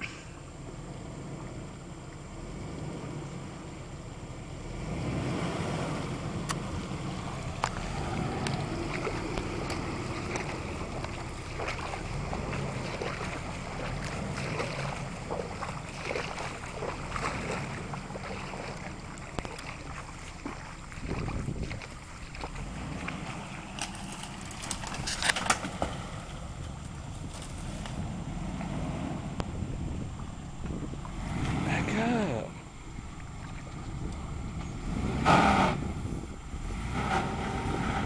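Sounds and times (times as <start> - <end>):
off-road vehicle engine running: 0.0 - 38.0
water rushing and splashing: 4.6 - 38.0.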